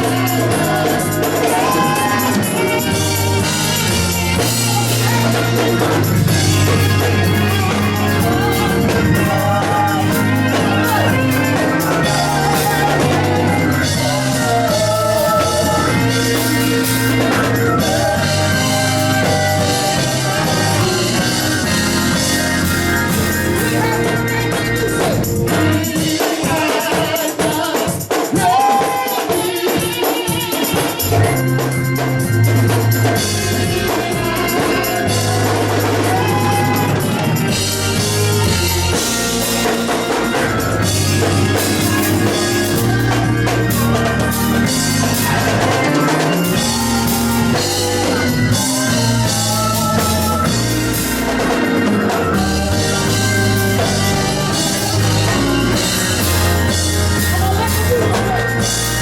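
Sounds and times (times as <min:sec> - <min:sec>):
deep bass notes: 0:00.0 - 0:25.8, 0:31.3 - 0:59.0
drum kit: 0:00.0 - 0:59.0
gospel singing: 0:00.0 - 0:59.0.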